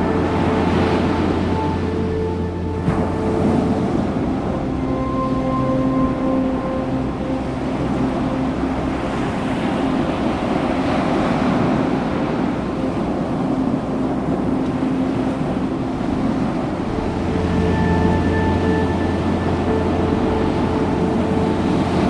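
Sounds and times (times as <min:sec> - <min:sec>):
ocean surf waves: 0:00.0 - 0:22.0
wind on microphone: 0:00.0 - 0:22.0.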